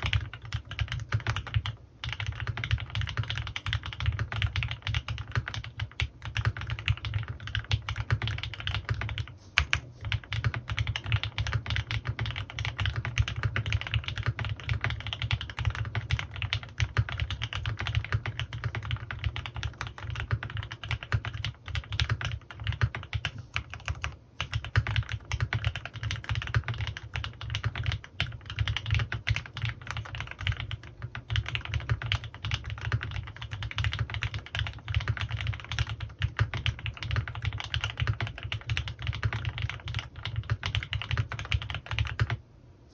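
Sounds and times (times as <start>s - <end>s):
mechanical keyboard typing: 0.0s - 42.4s.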